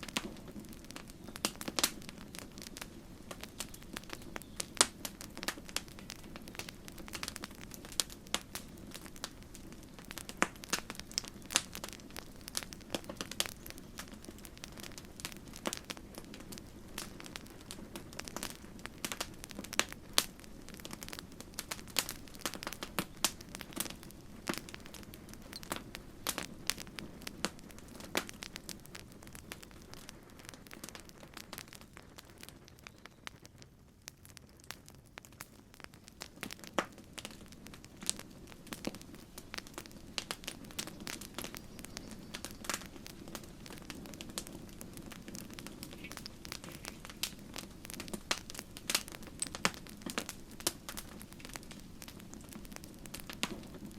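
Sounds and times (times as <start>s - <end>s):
campfire crackling and popping: 0.0s - 53.9s
low rush of flames: 0.0s - 53.9s.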